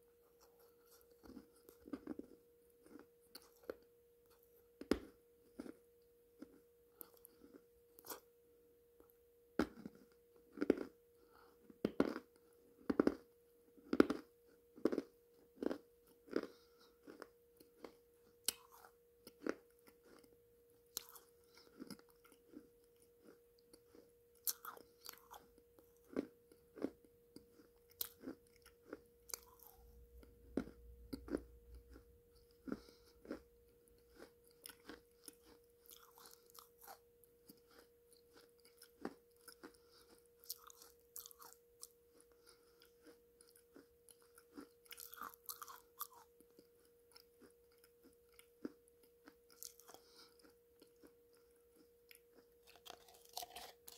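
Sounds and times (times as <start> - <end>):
faint steady hum: 0.0 - 53.9
chewing and crunching clay: 0.3 - 8.3, 9.6 - 53.9.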